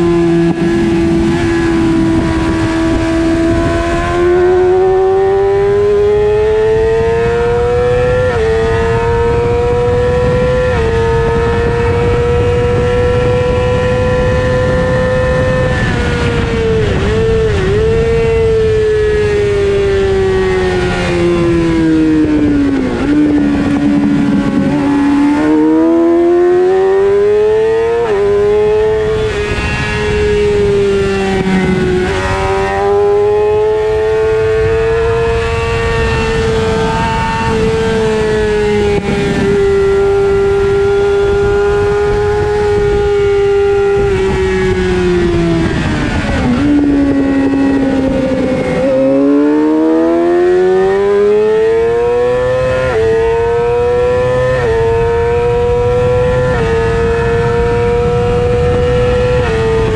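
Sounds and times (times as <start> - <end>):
motorcycle engine at racing speed: 0.0 - 59.9
wind rush: 0.0 - 59.9.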